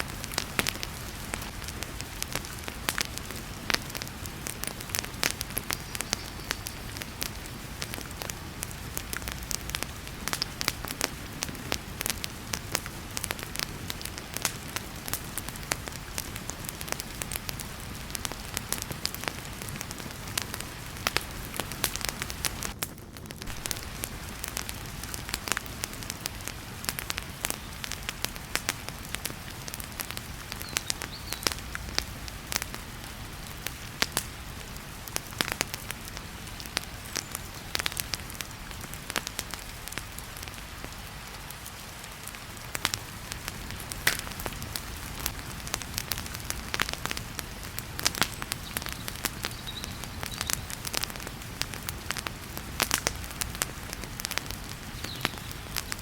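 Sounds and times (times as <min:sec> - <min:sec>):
heavy rain hiss: 0:00.0 - 0:56.0
wood fire crackling: 0:00.0 - 0:56.0.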